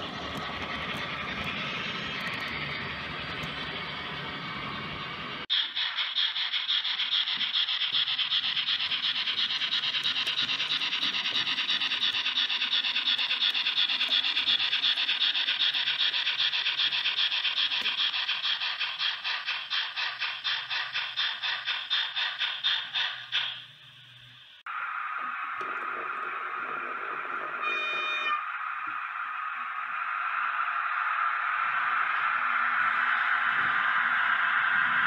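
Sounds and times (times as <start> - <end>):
model steam locomotive chuffing: 0.0 - 35.0.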